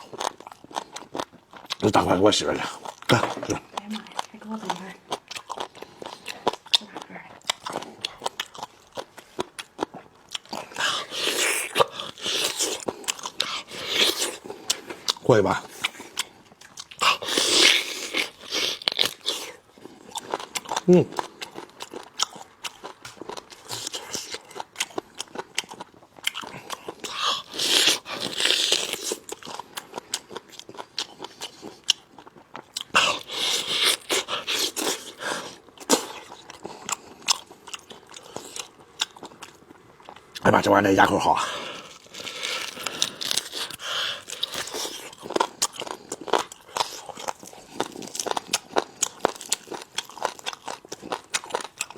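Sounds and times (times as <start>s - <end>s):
crunchy wet chewing: 0.0s - 51.9s.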